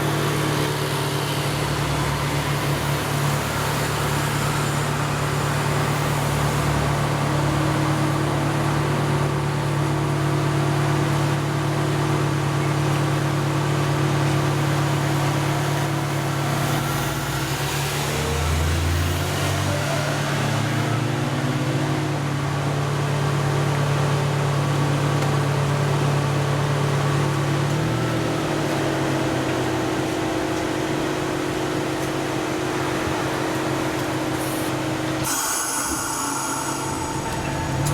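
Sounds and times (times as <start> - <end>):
tram running with hum: 0.0 - 37.9.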